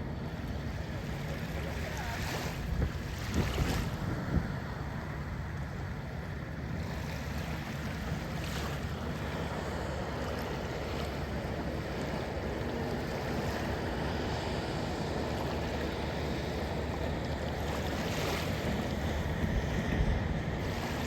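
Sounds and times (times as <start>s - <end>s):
waves washing onto beach: 0.0s - 21.0s
wind rumbling on microphone: 0.0s - 21.0s.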